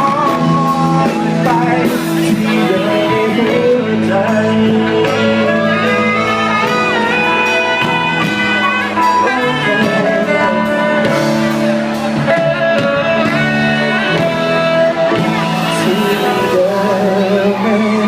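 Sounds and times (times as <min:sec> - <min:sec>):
live band playing pop ballad: 0:00.0 - 0:18.0.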